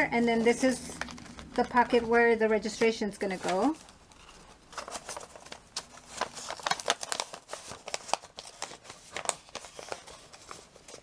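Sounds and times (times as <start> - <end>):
paper and plastic sheets rustling: 0.0 - 11.0.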